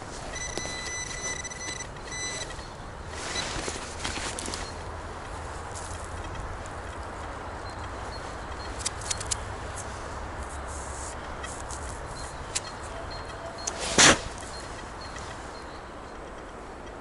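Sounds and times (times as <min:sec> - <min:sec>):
road traffic: 0:00.0 - 0:17.0
wind in a forest: 0:00.0 - 0:17.0.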